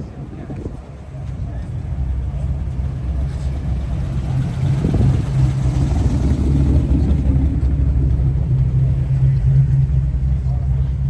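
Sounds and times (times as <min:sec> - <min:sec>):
car engine idling: 0:00.9 - 0:11.0.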